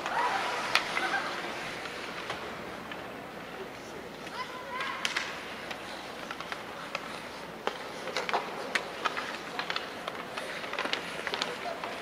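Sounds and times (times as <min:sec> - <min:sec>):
hockey sticks and puck clacking: 0:00.0 - 0:12.0
skates scraping on ice: 0:00.0 - 0:12.0.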